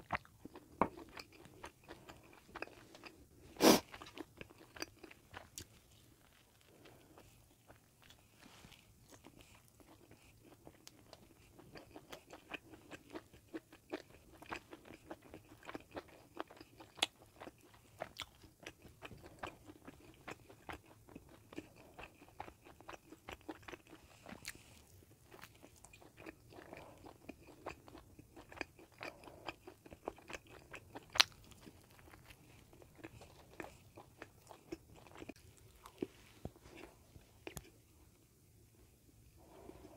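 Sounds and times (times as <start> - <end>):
crunchy chewing: 0.0 - 37.8.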